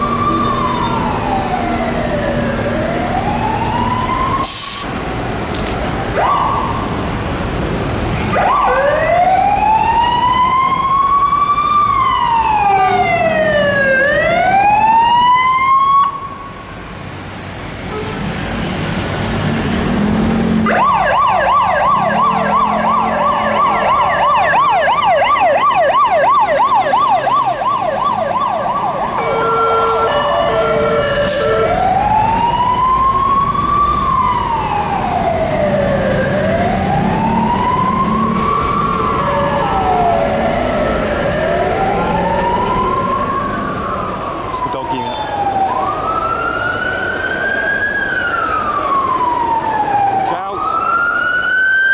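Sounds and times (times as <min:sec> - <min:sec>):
siren wailing: 0:00.0 - 0:04.5, 0:06.1 - 0:07.0, 0:08.0 - 0:16.5, 0:20.6 - 0:51.9
siren yelp: 0:00.0 - 0:04.6, 0:06.1 - 0:06.9, 0:08.0 - 0:16.5, 0:20.6 - 0:51.9
city traffic: 0:00.0 - 0:51.9.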